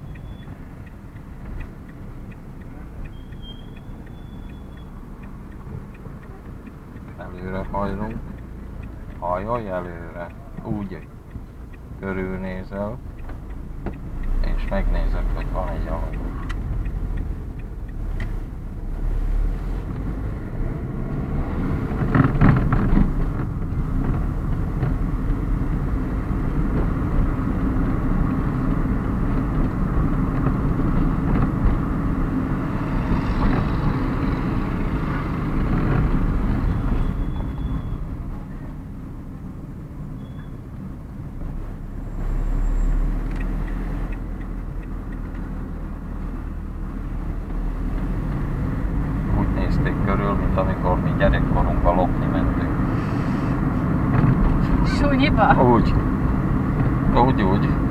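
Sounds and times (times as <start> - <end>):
car engine and tyre noise: 0.0 - 57.9.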